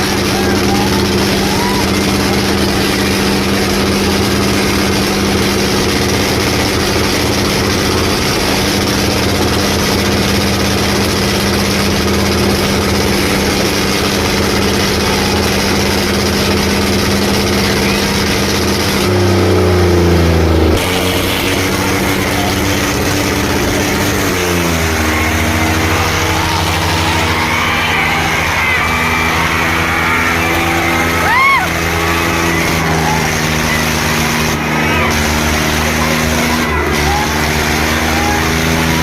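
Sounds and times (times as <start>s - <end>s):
lower engine note: 0.0s - 39.0s
tractor diesel engines running: 0.0s - 39.0s.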